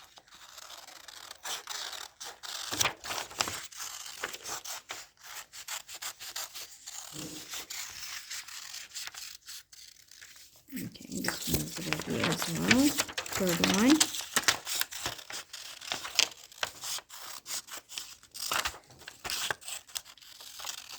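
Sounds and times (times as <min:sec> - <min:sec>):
scissors snipping paper: 0:00.0 - 0:20.9
paper rustling: 0:00.1 - 0:20.9.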